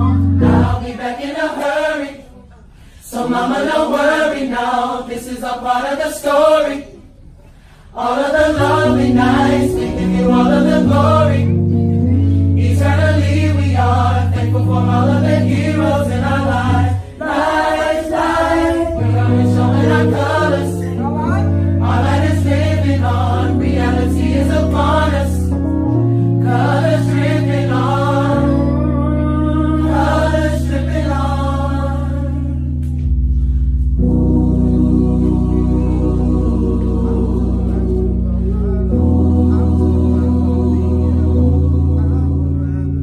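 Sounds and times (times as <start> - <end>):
sustained low chords: 0.0 - 0.9, 8.3 - 43.0
gospel choir singing: 0.0 - 33.2, 33.8 - 43.0.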